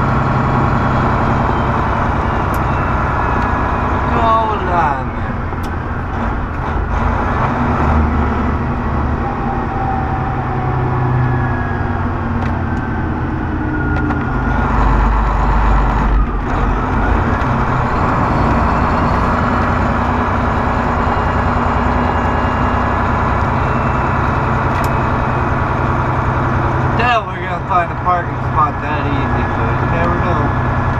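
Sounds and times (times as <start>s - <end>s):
road noise: 0.0s - 30.9s
truck diesel engine rumble: 0.0s - 30.9s.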